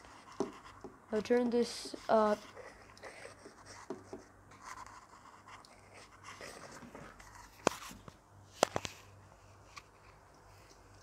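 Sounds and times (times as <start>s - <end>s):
soft handling rustle: 0.0s - 11.0s.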